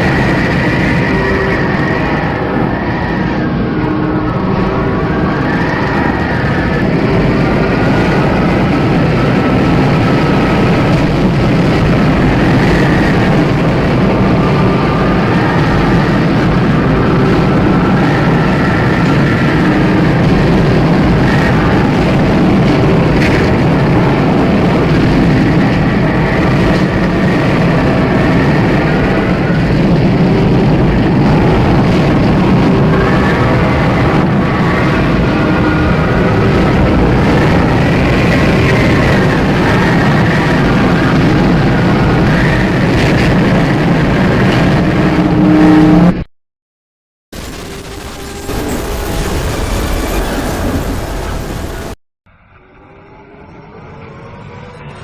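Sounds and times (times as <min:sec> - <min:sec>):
distorted static noise: 0:00.0 - 0:46.3, 0:47.3 - 0:52.0.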